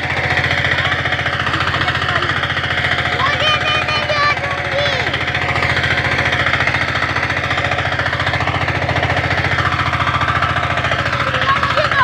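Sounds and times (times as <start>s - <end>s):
power tiller engine running: 0.0s - 12.0s.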